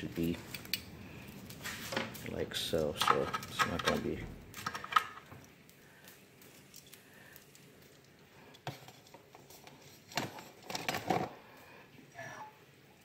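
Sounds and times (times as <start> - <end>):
knocks and rustles of handling: 0.0 - 11.4.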